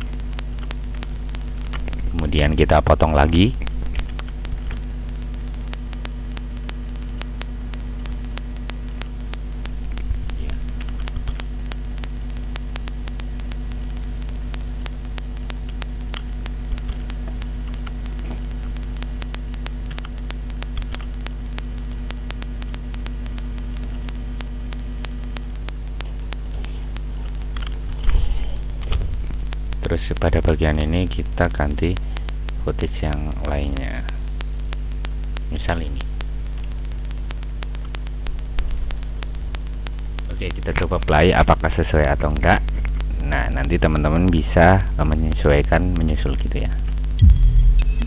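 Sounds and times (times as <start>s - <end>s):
electrical mains hum: 0.0s - 48.0s
static crackle: 0.0s - 48.0s.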